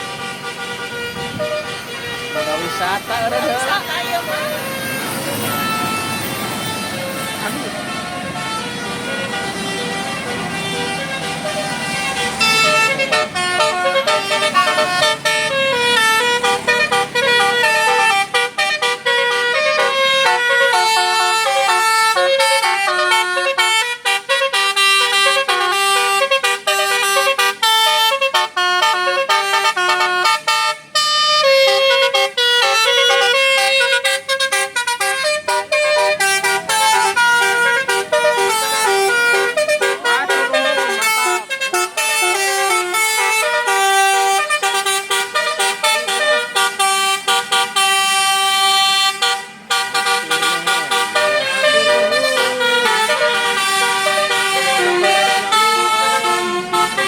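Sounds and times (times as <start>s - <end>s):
bus air horn playing a melody: 0.0s - 57.0s.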